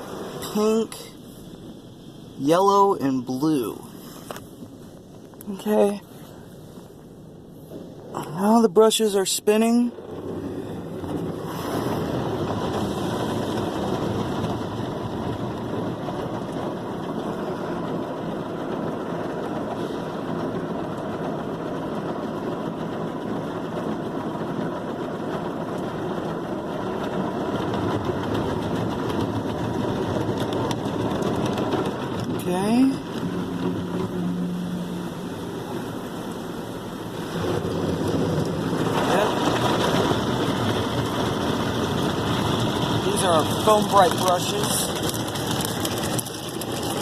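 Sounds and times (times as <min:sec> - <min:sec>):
car wash brushes and spraying water: 0:00.0 - 0:47.0.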